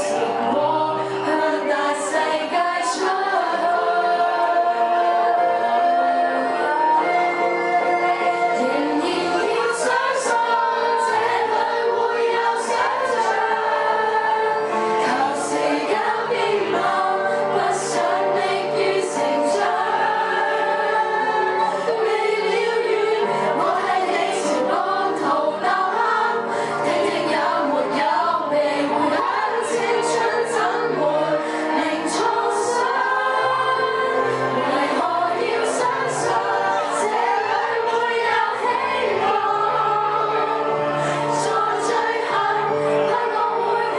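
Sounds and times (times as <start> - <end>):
young women singing together: 0.0 - 43.9.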